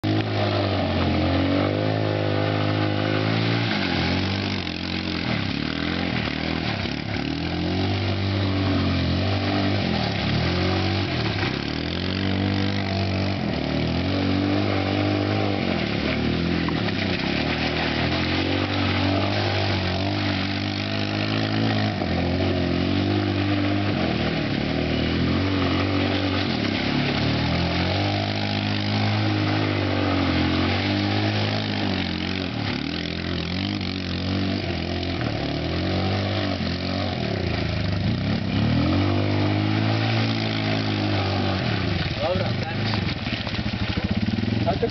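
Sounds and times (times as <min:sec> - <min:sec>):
quad bike engine revving: 0:00.0 - 0:44.9.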